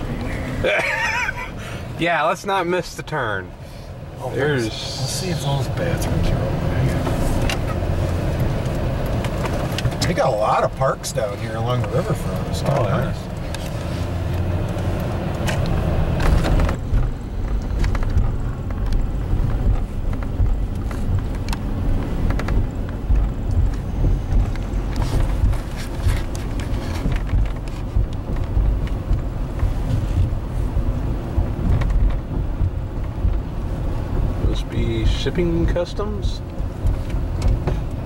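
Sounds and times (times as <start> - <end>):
vehicle engine and tyres rumbling: 0.0 - 38.0.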